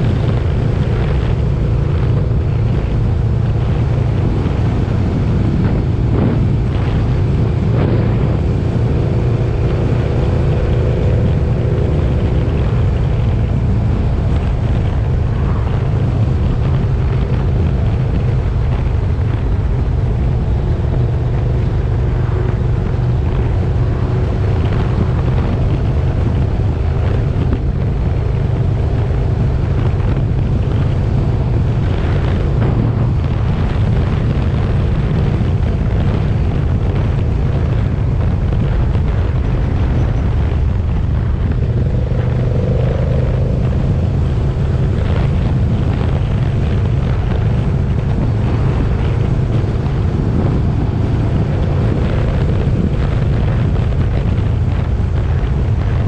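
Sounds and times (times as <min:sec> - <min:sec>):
heavy low rumble: 0:00.0 - 0:56.0
motorcycle engine running: 0:00.0 - 0:56.0.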